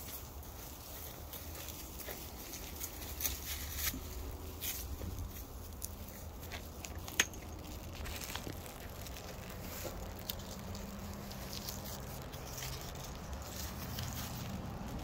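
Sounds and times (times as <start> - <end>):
faint rustles: 0.0 - 15.0
steady low rumble: 0.0 - 15.0.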